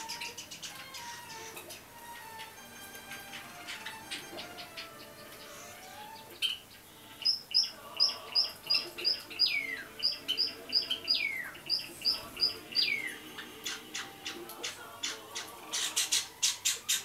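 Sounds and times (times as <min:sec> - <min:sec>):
bird chick chirping: 0:00.0 - 0:17.0.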